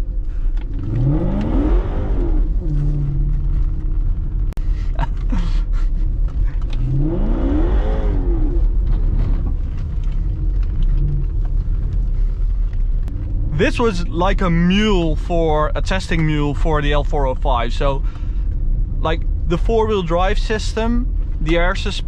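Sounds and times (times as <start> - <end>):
car engine revving: 0.0 - 5.3, 6.0 - 22.0
engine rumble: 0.0 - 22.0.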